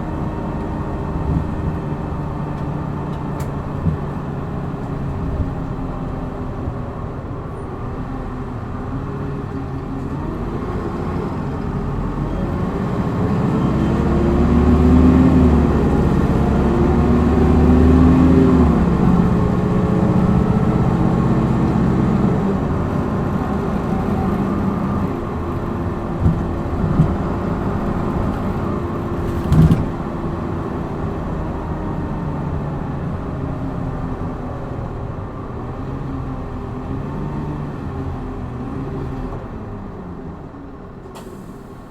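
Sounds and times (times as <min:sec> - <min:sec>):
bus diesel engine accelerating: 0:00.0 - 0:41.9.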